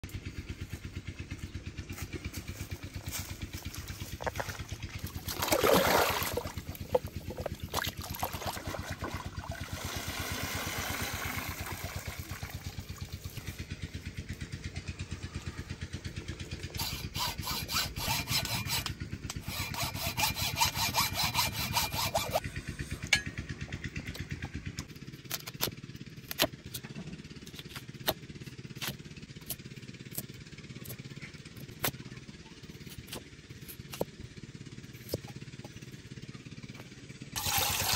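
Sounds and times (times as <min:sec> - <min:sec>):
small engine running: 0:00.0 - 0:37.9.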